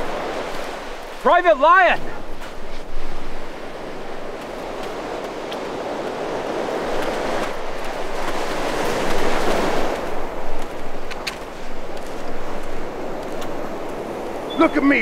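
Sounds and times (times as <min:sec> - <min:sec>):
sea surf breaking: 0:00.0 - 0:15.0.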